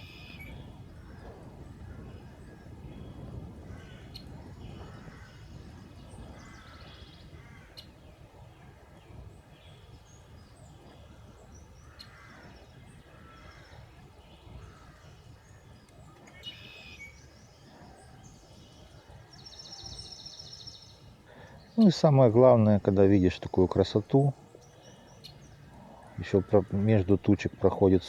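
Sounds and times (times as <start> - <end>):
bird calls: 0.0 - 28.0.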